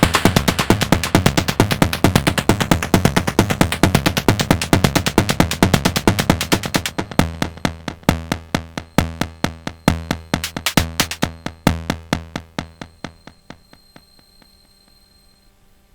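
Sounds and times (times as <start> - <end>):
deep kick drum: 0.0 - 14.0
fast hi-hats and percussion: 0.0 - 14.0.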